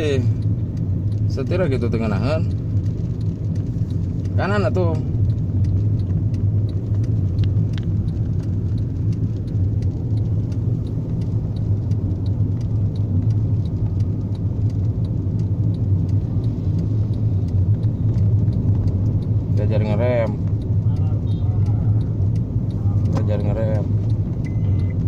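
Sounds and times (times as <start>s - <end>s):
car engine running steadily: 0.0s - 25.0s
faint regular ticking: 0.0s - 25.0s.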